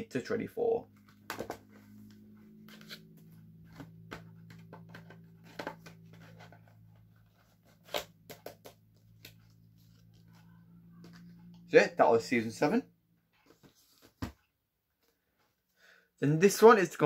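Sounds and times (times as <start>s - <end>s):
low steady hum: 0.0s - 14.1s.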